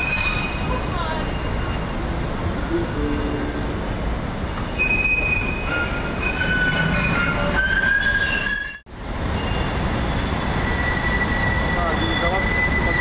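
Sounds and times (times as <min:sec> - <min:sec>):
tram wheels squealing: 0:00.0 - 0:02.3, 0:02.9 - 0:13.0
street and rail rumble: 0:00.0 - 0:13.0.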